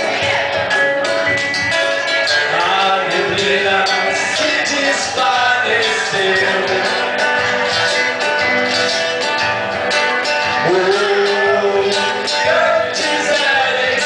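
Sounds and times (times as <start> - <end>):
acoustic guitars strumming: 0.0 - 14.0
percussion beat: 0.0 - 14.0.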